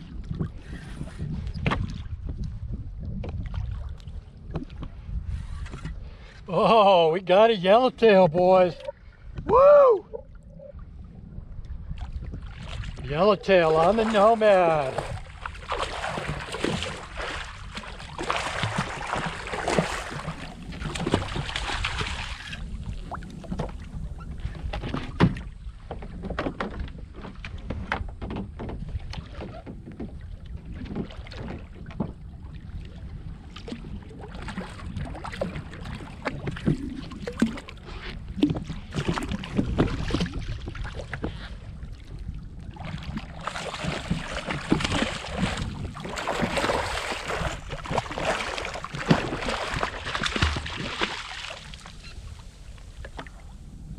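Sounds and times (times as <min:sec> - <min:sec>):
water lapping against kayak hull: 0:00.0 - 0:53.9.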